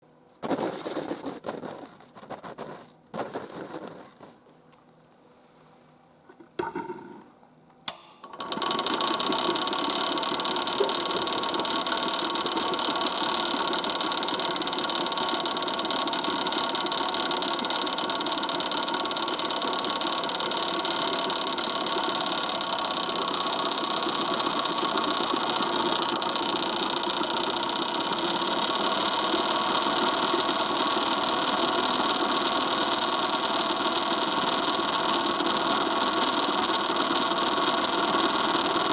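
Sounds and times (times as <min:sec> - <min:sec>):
vacuum pump humming: 0:06.3 - 0:38.9.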